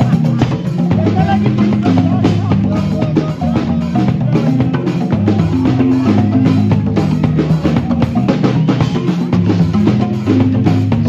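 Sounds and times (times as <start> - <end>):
marimba band playing: 0.0 - 11.0.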